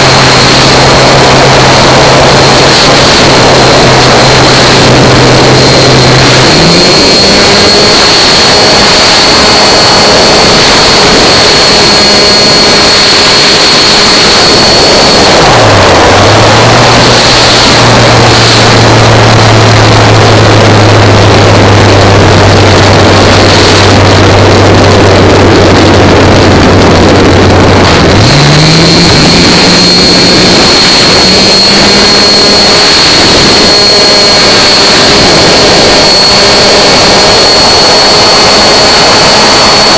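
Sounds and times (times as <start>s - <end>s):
model airplane engine running: 0.0s - 39.9s
wind noise: 0.0s - 39.9s.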